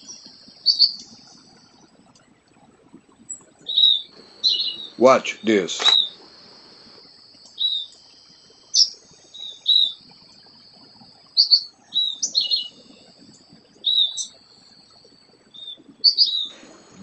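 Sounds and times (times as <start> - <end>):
small birds chirping: 0.0 - 2.4, 3.0 - 14.7, 15.5 - 17.0
thin steady high tone: 0.0 - 17.0.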